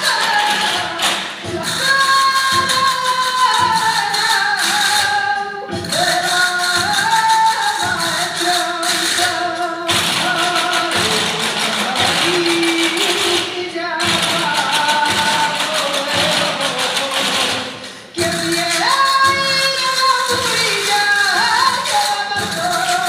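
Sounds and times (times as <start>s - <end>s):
sharp percussive strikes: 0.0s - 23.0s.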